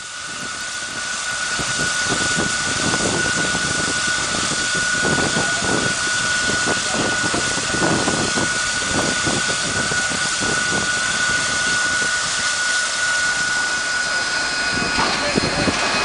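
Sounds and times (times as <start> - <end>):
low pulsing: 0.0 - 16.0
steady high whine: 0.0 - 16.0
steam hissing: 0.0 - 16.0.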